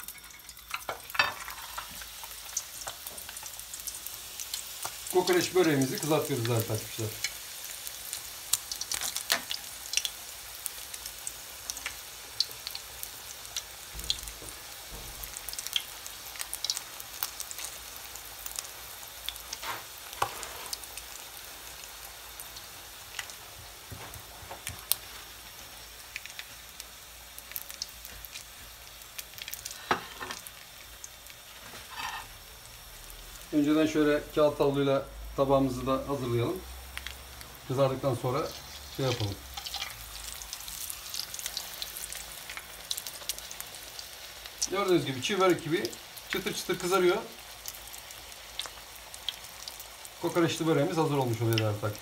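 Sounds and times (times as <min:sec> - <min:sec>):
oil popping and crackling: 0:00.0 - 0:33.7, 0:36.5 - 0:52.0
pastry frying in hot oil: 0:00.0 - 0:52.0.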